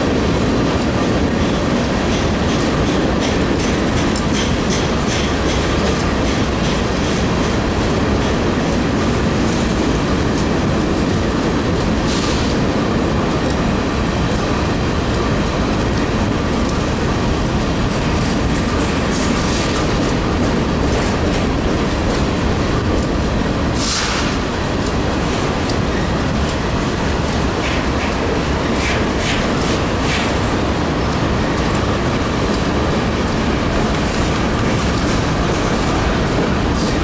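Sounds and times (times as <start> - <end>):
train cars rumbling past: 0.0 - 37.0
wheels clicking over rail joints: 0.1 - 37.0.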